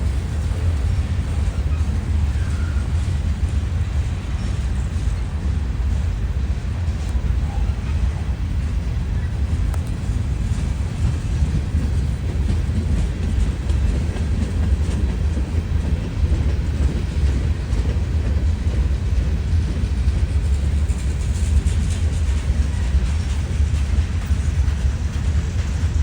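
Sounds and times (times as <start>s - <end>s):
freight train rumbling past: 0.0s - 26.0s
wheels clicking on rails: 0.0s - 26.0s.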